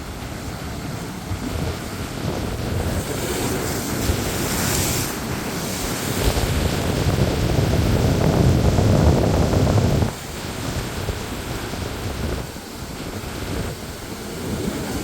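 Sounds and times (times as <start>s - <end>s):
surf breaking and washing ashore: 0.0s - 15.0s
wind buffeting microphone: 0.0s - 15.0s.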